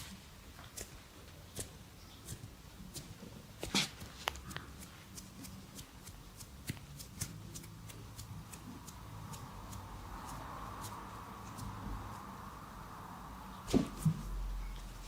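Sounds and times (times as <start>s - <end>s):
hands massaging skin and hair: 0.0s - 12.4s.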